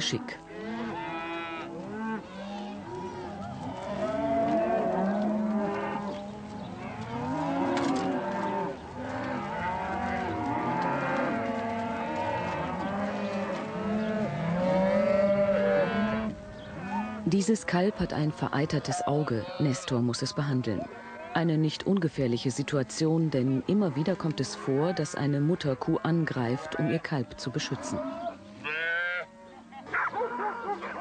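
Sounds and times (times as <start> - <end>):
cattle mooing: 0.2 - 21.6, 23.0 - 29.6.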